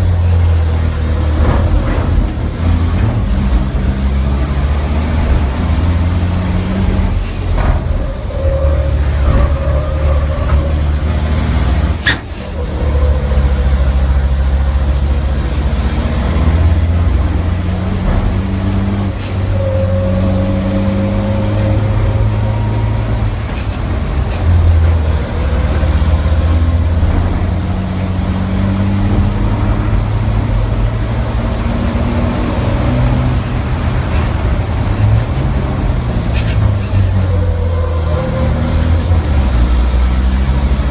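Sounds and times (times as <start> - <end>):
diesel engine running hard: 0.0 - 40.9.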